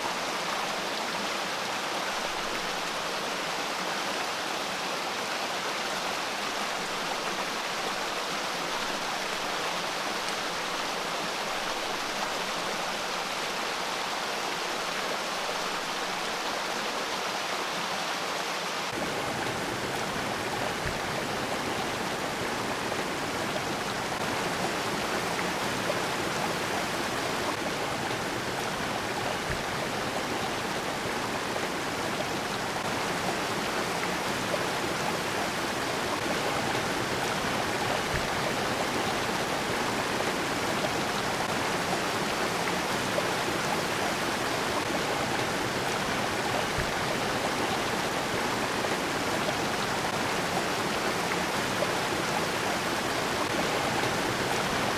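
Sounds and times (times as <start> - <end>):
creek water rushing over rocks: 0.0 - 54.9.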